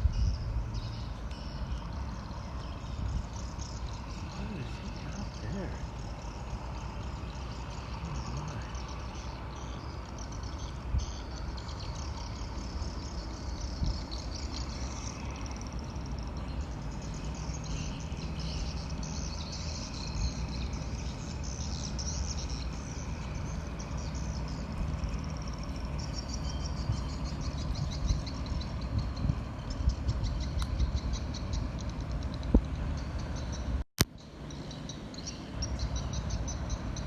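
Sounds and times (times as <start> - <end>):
boat engine drone: 0.0 - 37.0
insects and birds chirping: 0.0 - 37.0
rapid pulsing insect trill: 0.3 - 33.3, 34.2 - 37.0.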